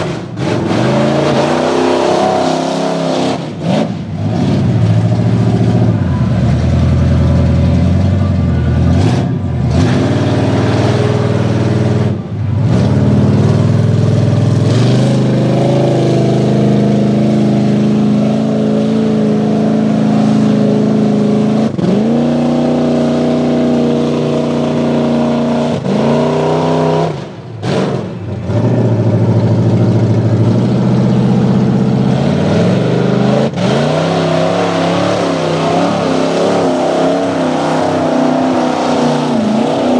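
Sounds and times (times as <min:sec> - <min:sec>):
truck churning through muddy water: 0:00.0 - 0:39.9
truck engine revving hard: 0:00.0 - 0:39.9.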